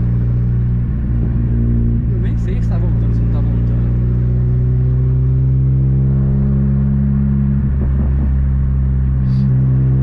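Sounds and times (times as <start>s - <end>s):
car engine drone from inside: 0.0s - 10.0s.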